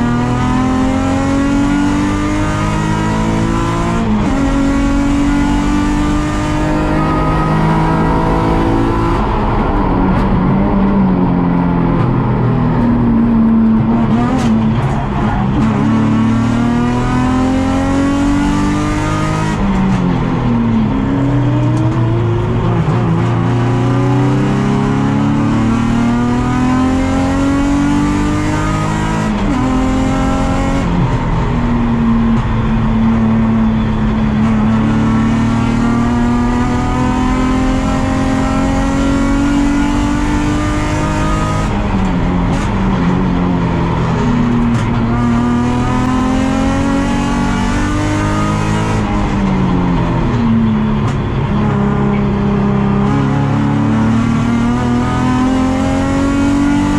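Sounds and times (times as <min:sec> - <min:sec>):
race car engine accelerating: 0:00.0 - 0:56.9.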